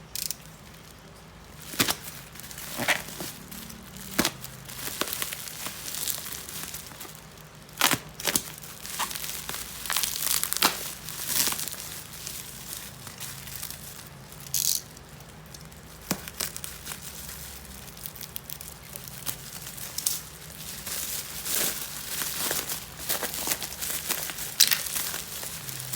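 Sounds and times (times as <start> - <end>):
packaging crinkling: 0.1 - 25.9.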